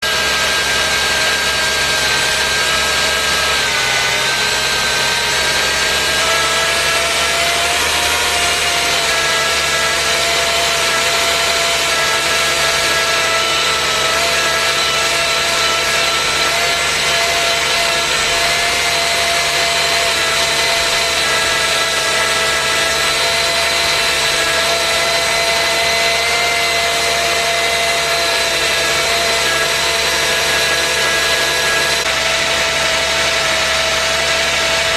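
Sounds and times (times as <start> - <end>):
power steering pump whining: 0.0 - 34.9.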